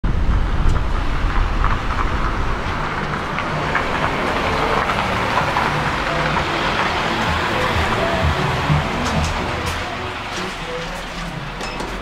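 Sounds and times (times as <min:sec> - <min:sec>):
low mechanical rumble: 0:00.0 - 0:11.5.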